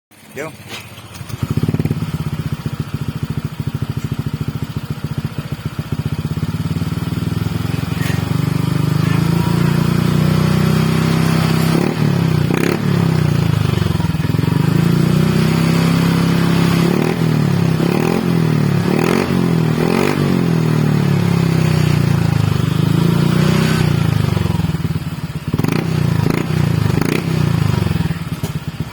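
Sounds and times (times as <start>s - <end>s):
scooter engine idling: 0.1s - 28.9s.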